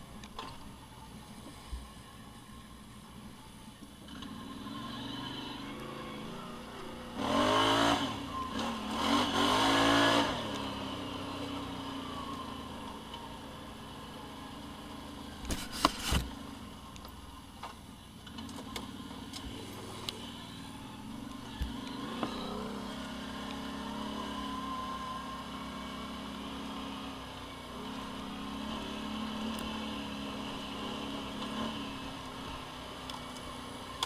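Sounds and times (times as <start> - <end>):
vehicle engine idling and revving: 0.0 - 34.0.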